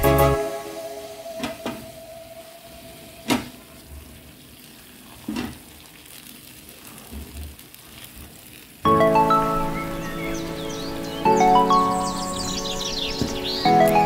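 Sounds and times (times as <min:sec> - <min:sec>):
porridge simmering with a sizzle: 0:01.2 - 0:14.0.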